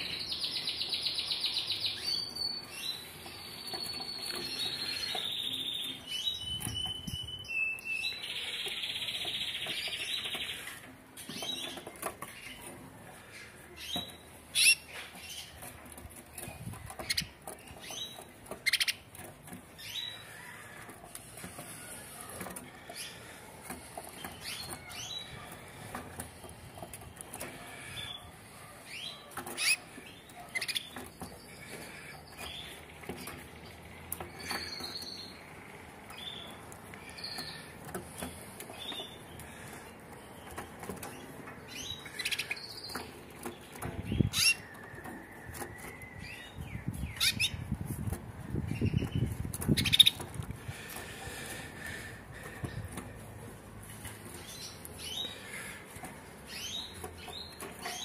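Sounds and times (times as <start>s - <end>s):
canaries chirping: 0.0s - 58.0s.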